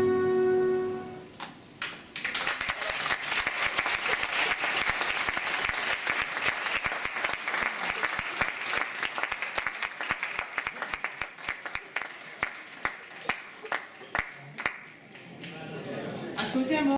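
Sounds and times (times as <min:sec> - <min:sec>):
audience applause: 0:02.1 - 0:15.8.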